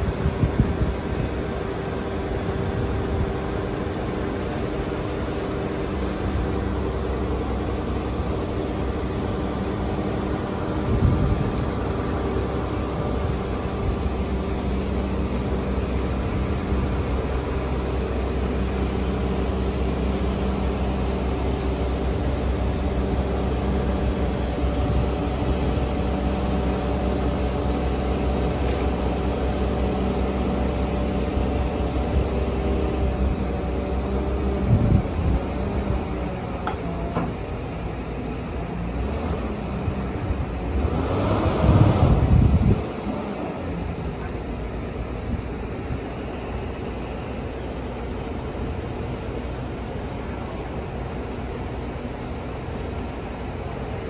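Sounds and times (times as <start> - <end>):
diesel crane engines running: 0.0 - 54.0.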